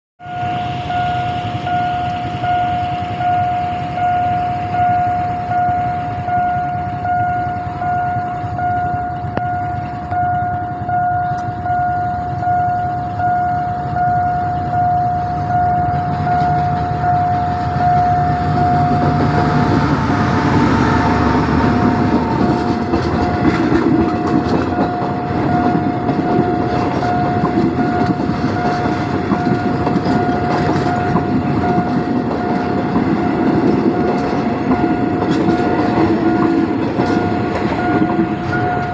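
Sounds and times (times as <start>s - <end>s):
level-crossing alarm ringing: 0.2s - 38.9s
passenger train passing: 0.2s - 38.9s.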